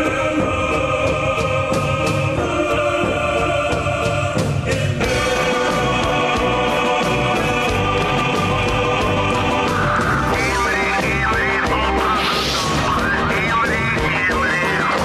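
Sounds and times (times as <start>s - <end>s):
choir singing long notes: 0.0s - 15.0s.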